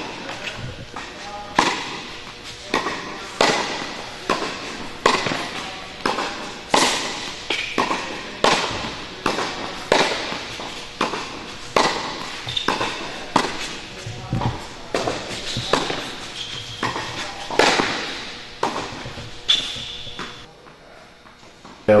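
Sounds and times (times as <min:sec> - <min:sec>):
tennis balls struck with racquets: 0:00.0 - 0:20.5.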